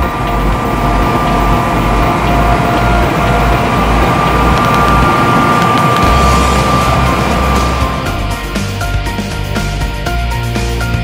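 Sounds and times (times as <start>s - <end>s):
combine harvester running: 0.0s - 9.2s
steady machine whine: 0.0s - 9.8s.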